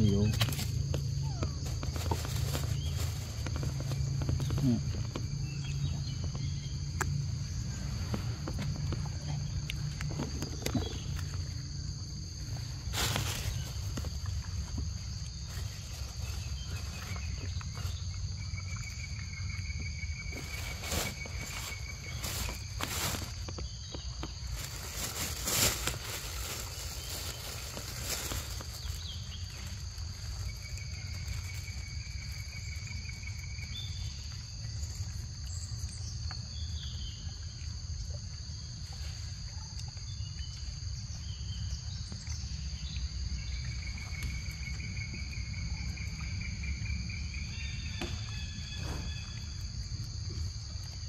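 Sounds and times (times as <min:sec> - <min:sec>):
insect chorus drone: 0:00.0 - 0:51.0.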